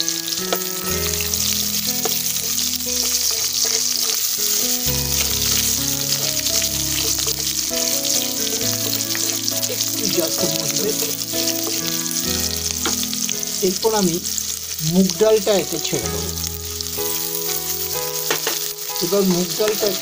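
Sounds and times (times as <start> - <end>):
background music of held notes: 0.0 - 20.0
food sizzling in hot oil: 0.0 - 20.0.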